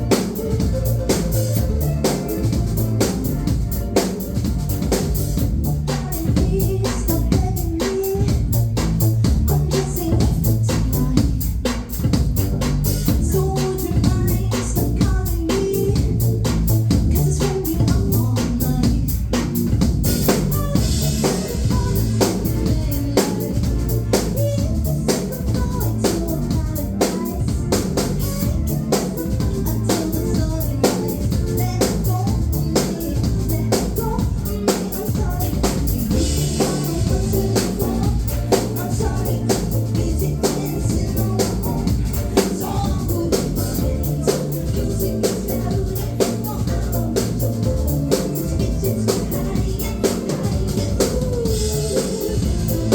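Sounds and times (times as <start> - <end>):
heavy bass: 0.0 - 52.9
live band music: 0.0 - 52.9.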